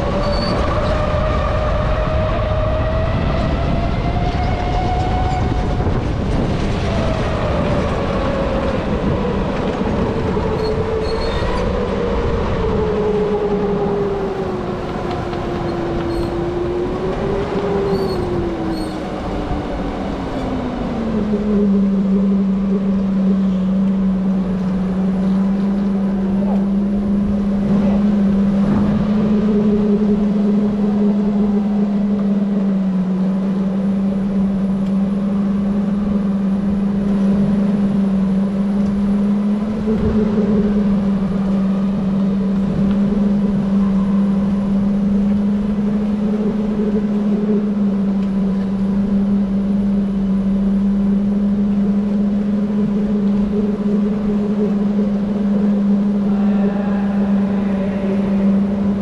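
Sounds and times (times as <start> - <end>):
low rumble of kart on track: 0.0 - 59.0.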